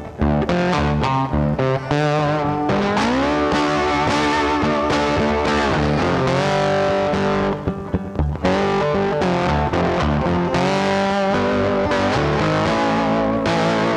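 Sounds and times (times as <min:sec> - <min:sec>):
rock music with distorted guitar: 0:00.0 - 0:13.9.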